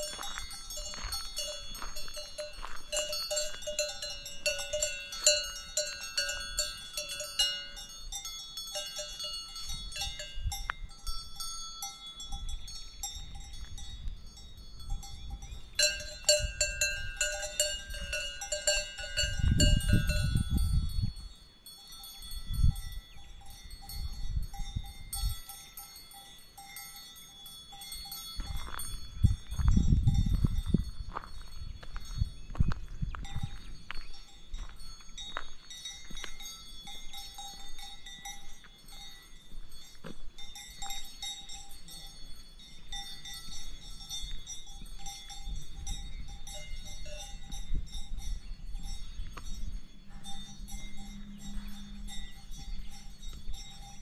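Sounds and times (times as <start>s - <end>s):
livestock bells clanking: 0.0s - 54.0s.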